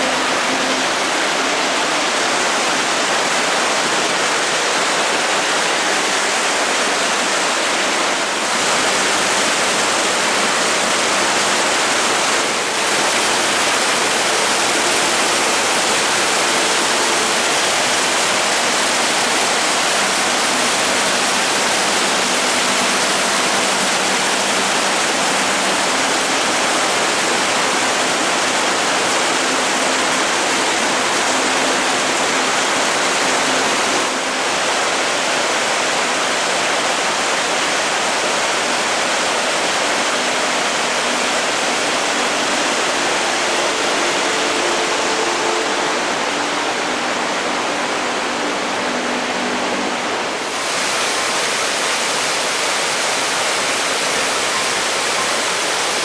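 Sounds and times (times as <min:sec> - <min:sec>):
water rushing over boulders: 0:00.0 - 0:56.0.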